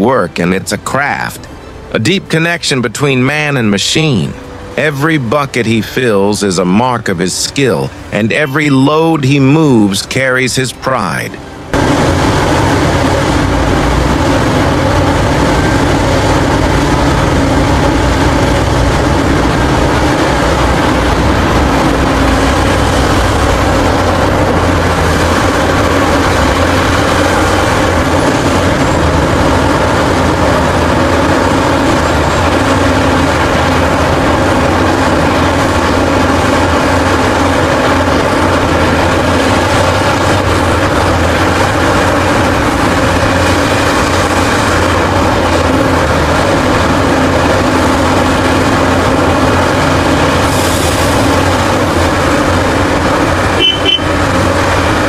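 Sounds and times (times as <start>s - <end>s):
excavator diesel engine under load: 0.0s - 55.0s.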